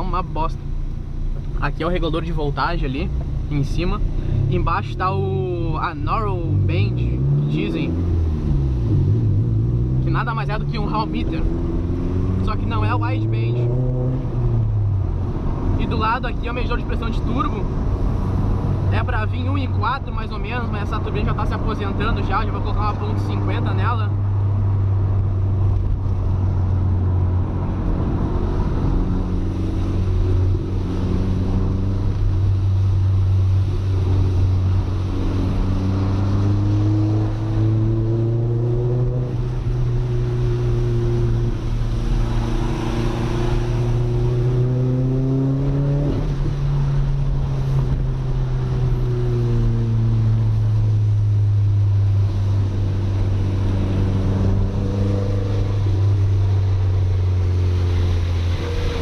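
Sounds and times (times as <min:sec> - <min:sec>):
car engine from inside cabin: 0:00.7 - 0:59.0.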